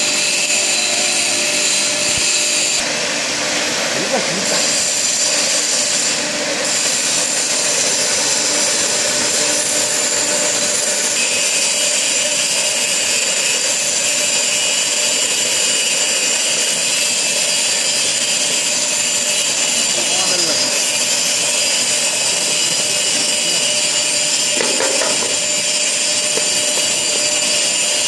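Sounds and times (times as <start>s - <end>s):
electric grinding mill running: 0.0s - 28.0s.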